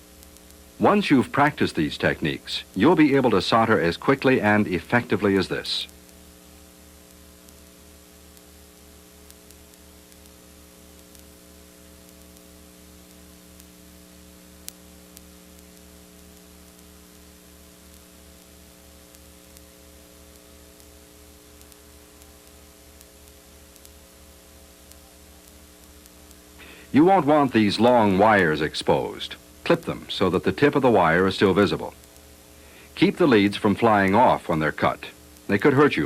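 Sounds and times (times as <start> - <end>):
electrical mains hum with hiss: 0.0 - 36.0.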